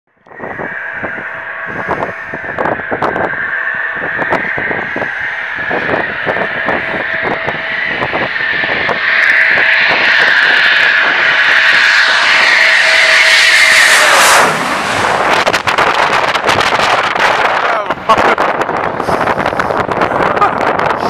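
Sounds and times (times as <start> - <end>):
wind buffeting microphone: 0.1 - 21.0
jet engines whining: 0.2 - 21.0.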